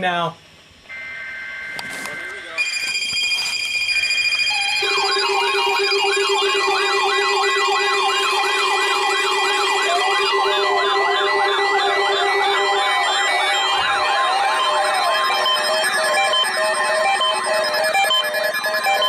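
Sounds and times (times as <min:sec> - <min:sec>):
electronic siren sweeps: 0:00.9 - 0:19.0
slower siren sweep: 0:00.9 - 0:19.0.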